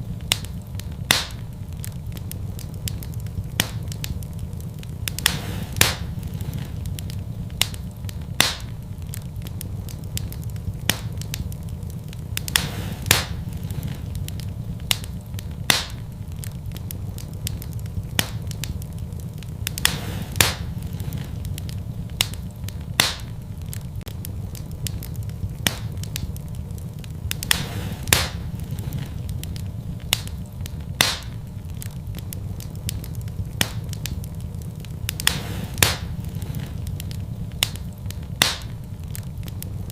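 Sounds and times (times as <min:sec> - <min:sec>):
fire crackling and popping: 0:00.0 - 0:39.9
fire rumbling in fireplace: 0:00.0 - 0:39.9.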